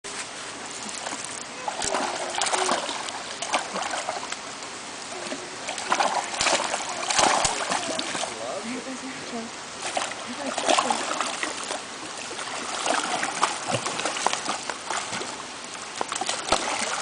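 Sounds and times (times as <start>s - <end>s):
stream rushing: 0.1s - 17.0s
dog wading in water: 0.7s - 17.0s
fish thrashing in water: 0.8s - 4.5s, 5.1s - 8.4s, 9.8s - 17.0s.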